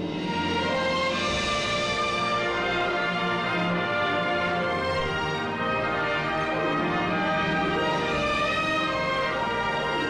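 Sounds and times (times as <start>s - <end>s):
orchestral music sustained chords: 0.0s - 10.0s.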